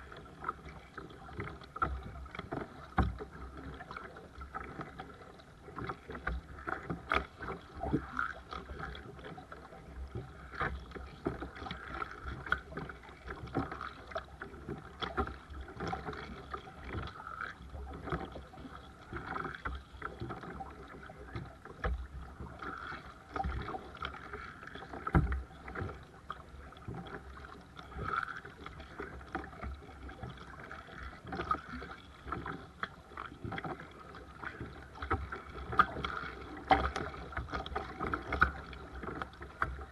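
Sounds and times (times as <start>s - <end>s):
paddle blades dipping in water: 0.0s - 39.9s.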